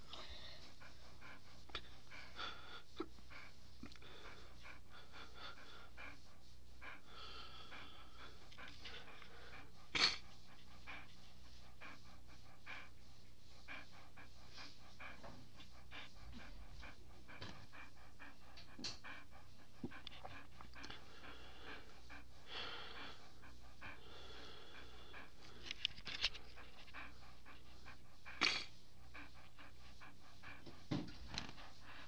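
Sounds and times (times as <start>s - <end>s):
dog panting rapidly: 0.0s - 32.0s.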